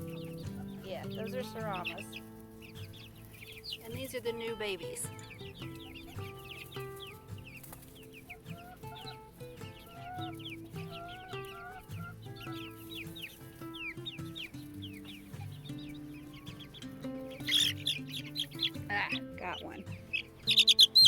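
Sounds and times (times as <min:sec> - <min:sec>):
chickens clucking: 0:00.0 - 0:21.0
chicks peeping: 0:00.0 - 0:21.0
soft background music: 0:00.0 - 0:21.0.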